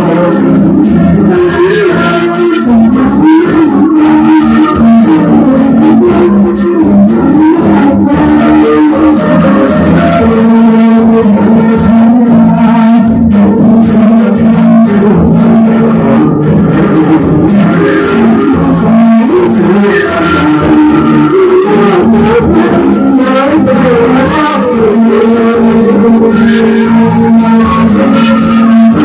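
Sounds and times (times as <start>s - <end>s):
guitar melody over a beat: 0.0s - 29.0s.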